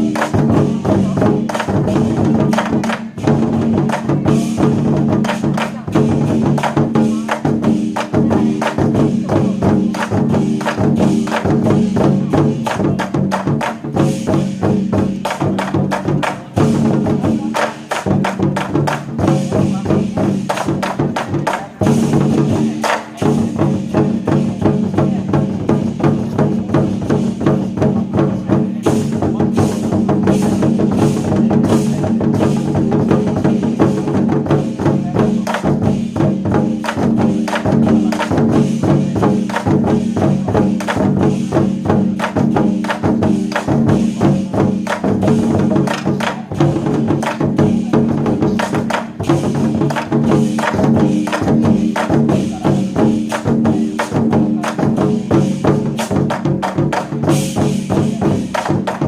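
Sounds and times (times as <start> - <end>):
war drums beating fast: 0.0 - 59.0.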